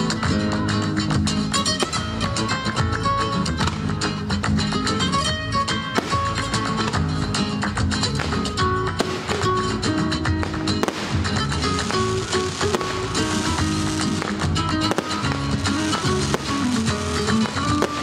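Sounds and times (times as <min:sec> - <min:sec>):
flamenco guitar music: 0:00.0 - 0:18.0.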